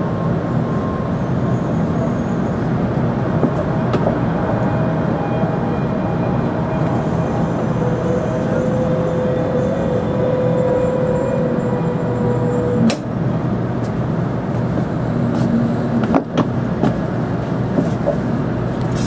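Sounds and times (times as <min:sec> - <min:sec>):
train interior rumble: 0:00.0 - 0:19.0
train whine: 0:00.0 - 0:19.0.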